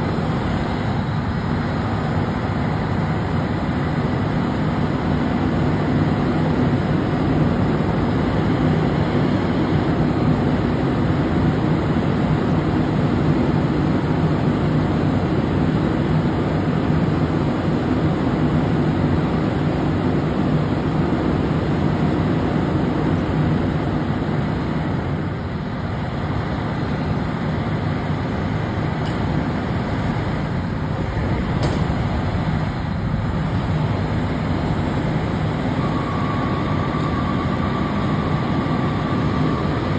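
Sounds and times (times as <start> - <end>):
diesel engines idling: 0.0 - 16.6, 17.4 - 39.9.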